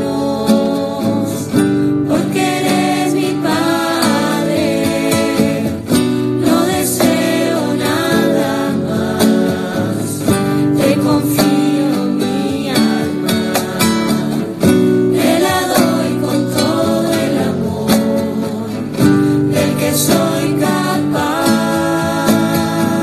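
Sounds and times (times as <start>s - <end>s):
person singing a hymn: 0.0s - 23.0s
strummed acoustic guitar: 0.0s - 23.0s.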